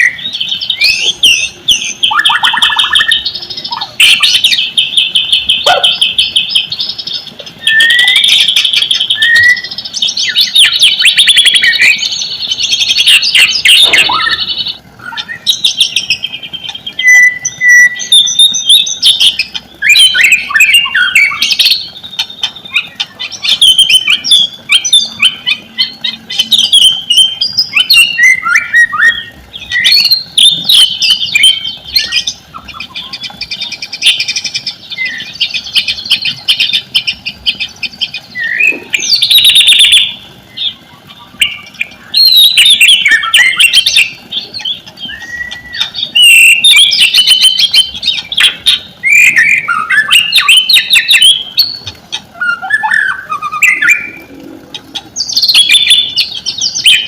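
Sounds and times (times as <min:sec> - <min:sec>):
bird song with whistles and trills: 0:00.0 - 0:57.0.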